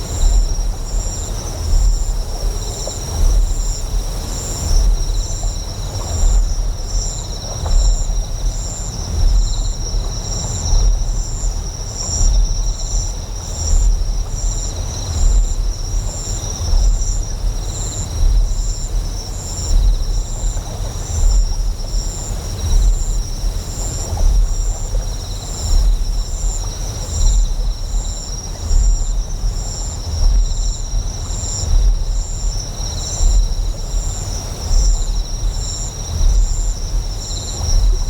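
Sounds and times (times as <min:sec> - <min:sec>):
deep generator hum: 0:00.0 - 0:38.0
flowing water: 0:00.0 - 0:38.0.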